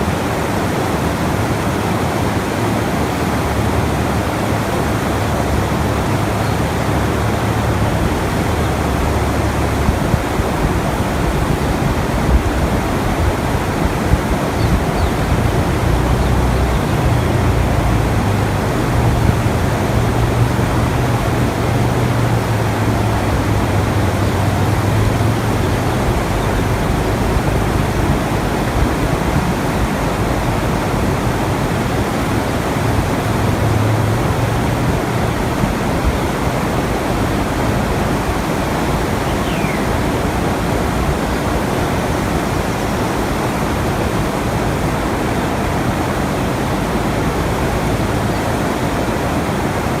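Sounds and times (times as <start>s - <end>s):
rushing water: 0.0s - 50.0s.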